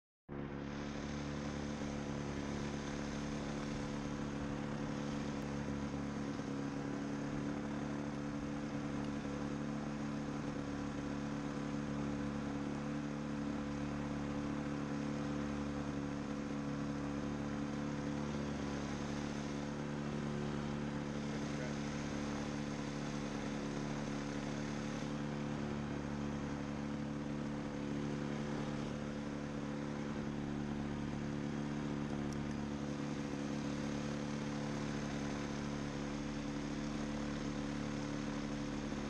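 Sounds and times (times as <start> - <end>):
two-stroke engine running: 0.3 - 39.0.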